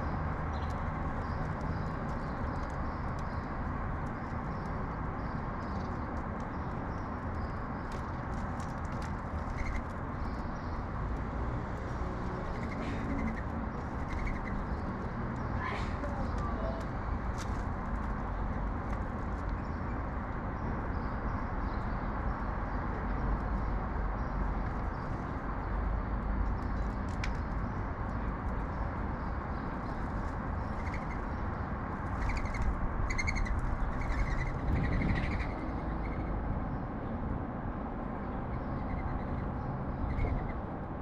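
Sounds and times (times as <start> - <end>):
sparrows chirping: 0.0 - 37.2, 38.1 - 40.7
low urban background rumble: 0.0 - 41.0.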